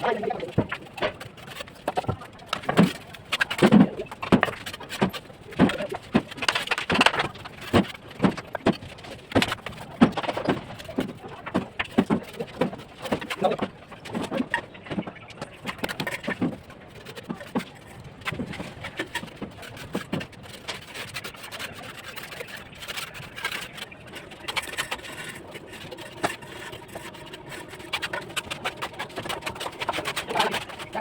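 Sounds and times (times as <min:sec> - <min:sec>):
trowel knocking and scraping bricks: 0:00.0 - 0:31.0.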